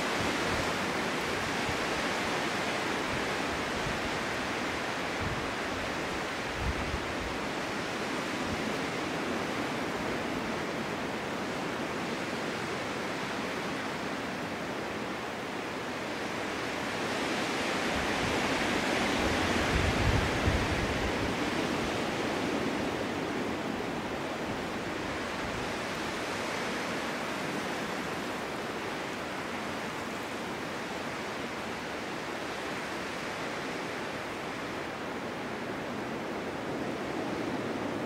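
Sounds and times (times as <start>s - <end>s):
snowstorm wind blowing: 0.0s - 38.0s.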